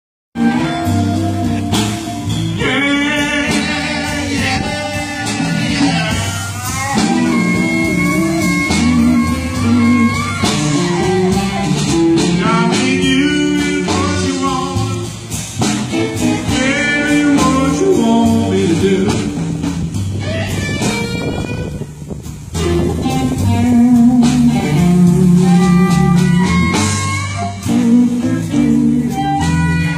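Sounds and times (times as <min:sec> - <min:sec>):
person singing blues: 0:00.4 - 0:21.9, 0:22.5 - 0:29.9
bass guitar: 0:00.4 - 0:29.9
guitar: 0:00.4 - 0:29.9.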